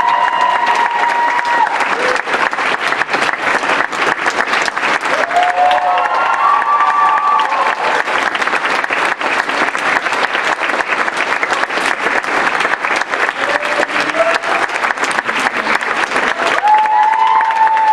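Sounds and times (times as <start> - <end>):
audience clapping: 0.0 - 17.9.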